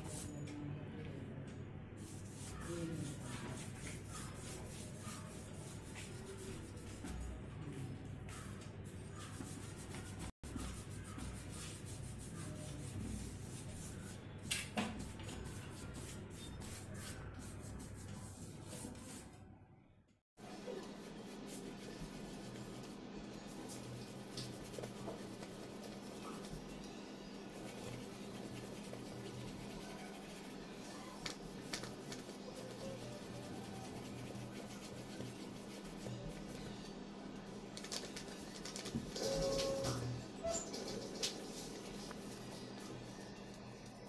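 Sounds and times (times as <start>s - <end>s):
pencil and brush on paper: 0.0s - 0.4s, 2.0s - 7.4s, 8.0s - 19.4s, 20.4s - 37.0s, 37.7s - 44.0s.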